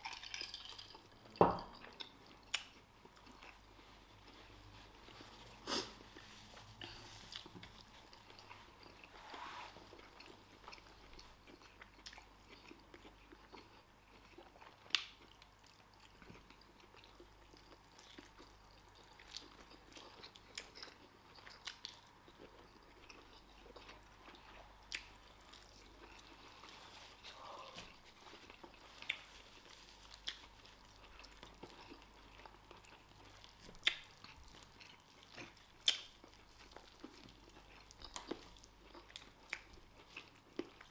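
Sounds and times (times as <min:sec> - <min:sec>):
people chewing and eating: 0:00.0 - 0:40.9.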